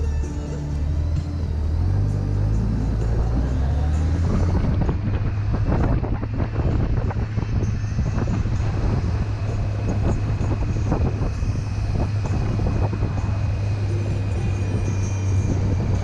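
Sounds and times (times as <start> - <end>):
motorcycle engine running: 0.0 - 16.0
wind noise on microphone: 2.8 - 16.0.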